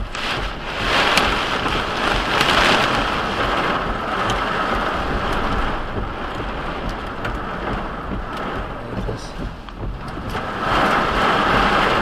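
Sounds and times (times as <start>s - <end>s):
rain and wind rushing: 0.0s - 12.0s
raindrops ticking: 0.0s - 12.0s.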